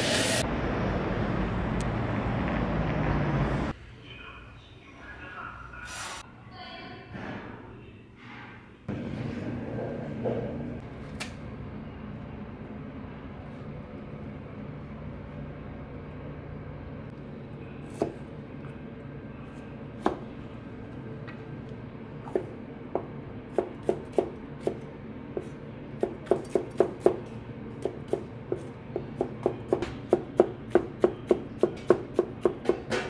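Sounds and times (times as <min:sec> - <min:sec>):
low background hum: 0:03.7 - 0:33.0.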